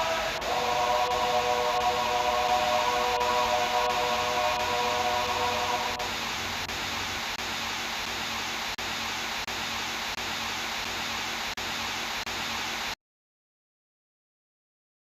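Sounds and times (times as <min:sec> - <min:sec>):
white noise static hiss: 0:00.0 - 0:13.0.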